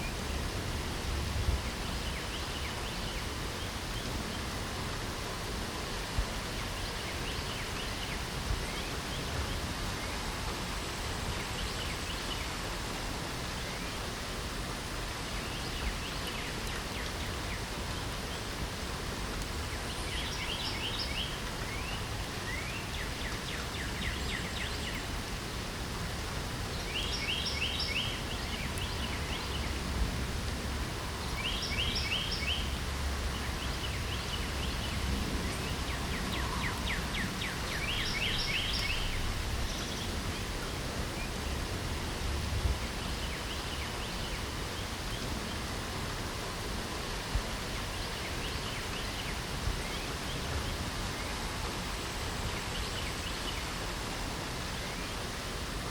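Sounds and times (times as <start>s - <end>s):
light rain falling: 0.0s - 55.9s
songbirds chirping: 0.0s - 55.9s.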